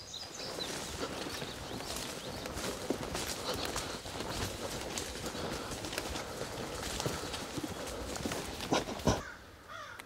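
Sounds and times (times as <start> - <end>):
footsteps crunching on rough ground: 0.0 - 10.0.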